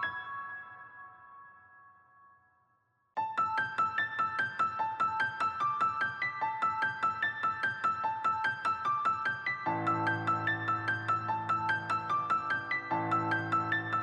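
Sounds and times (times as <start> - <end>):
bright piano-like melody: 0.0 - 14.0.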